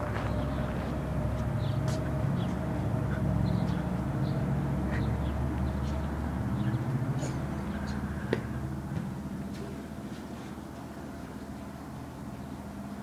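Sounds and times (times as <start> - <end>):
faint hum: 0.0 - 13.0
steady low rumble: 0.0 - 13.0.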